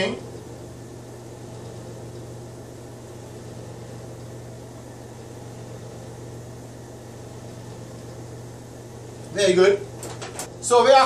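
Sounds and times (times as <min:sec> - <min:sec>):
fan-like hiss: 0:00.0 - 0:11.0
low appliance hum: 0:00.0 - 0:11.0.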